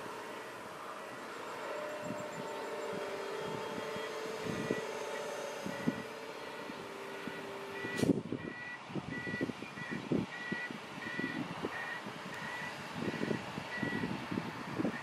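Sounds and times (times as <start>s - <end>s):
excavator diesel engine humming: 0.0s - 15.0s
hydraulic whine: 0.0s - 15.0s.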